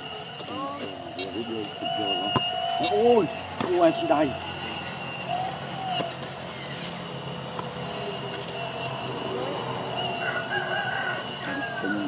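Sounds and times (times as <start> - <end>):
hydraulic pump hum with high whine: 0.0 - 12.0.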